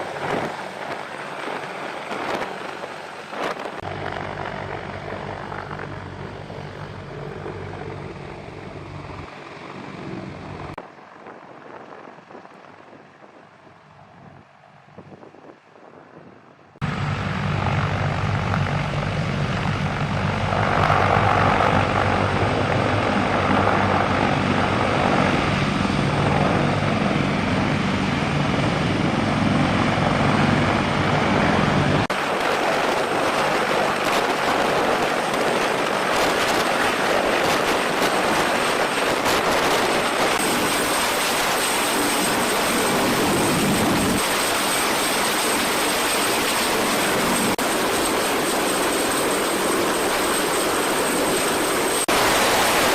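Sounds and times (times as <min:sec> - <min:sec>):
helicopter rotor and engine rumble: 0:00.0 - 0:52.9.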